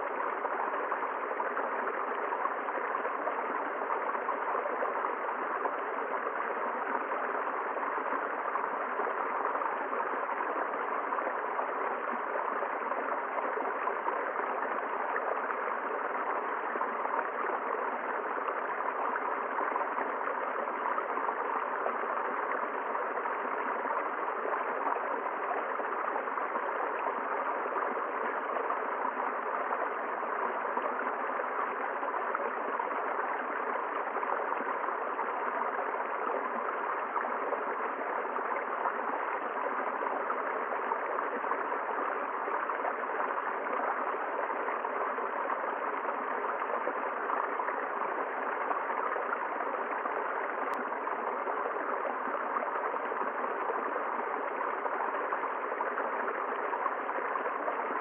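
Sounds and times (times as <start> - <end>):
river water over rocks: 0.0 - 58.0.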